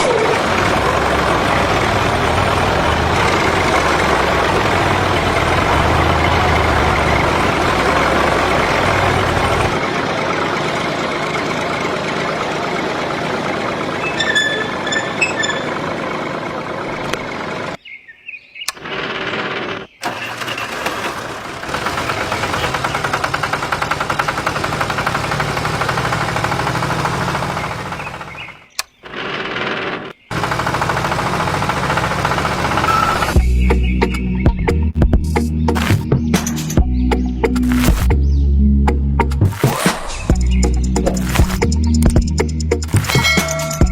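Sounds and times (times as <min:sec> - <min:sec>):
tractor engine running: 0:00.0 - 0:17.8, 0:18.7 - 0:43.9.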